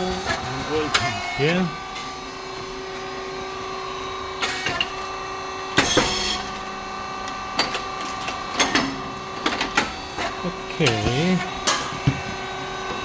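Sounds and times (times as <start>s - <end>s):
hydraulic pump motor hum: 0.0s - 13.0s.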